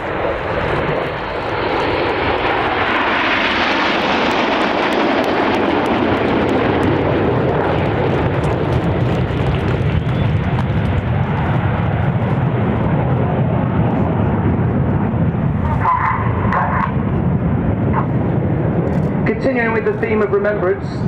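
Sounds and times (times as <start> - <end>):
jets flying past: 0.0 - 21.0.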